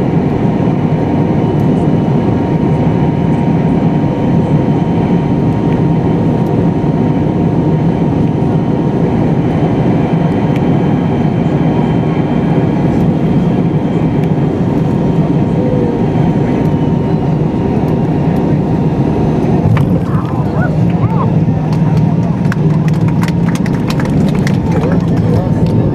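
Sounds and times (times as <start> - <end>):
airliner cabin rumble: 0.0 - 25.9.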